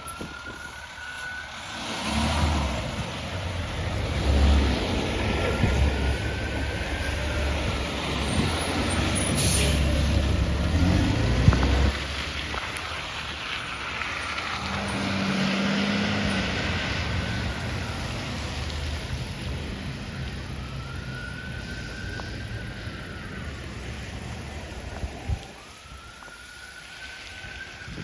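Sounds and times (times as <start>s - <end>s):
siren wailing: 0.0s - 3.2s, 4.0s - 12.0s, 14.0s - 28.0s
road traffic noise: 0.0s - 28.0s.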